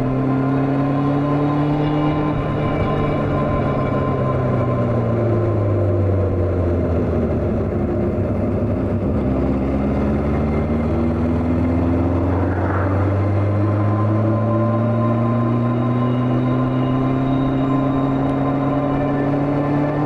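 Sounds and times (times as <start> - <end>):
wind rush: 0.9 - 20.0.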